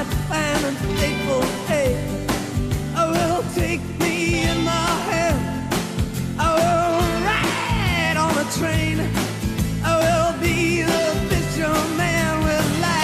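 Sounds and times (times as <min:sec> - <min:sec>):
rock song: 0:00.0 - 0:13.0.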